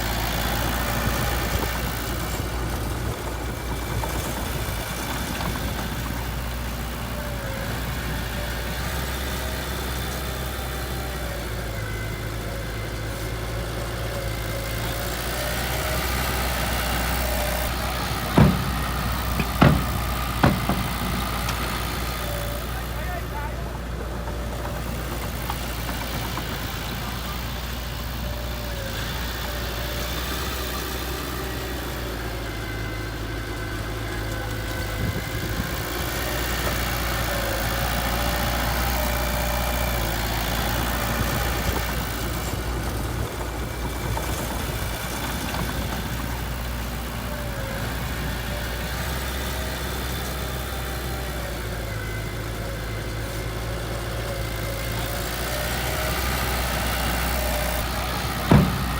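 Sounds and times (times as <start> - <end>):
heavy machine engine idling: 0.0 - 58.9.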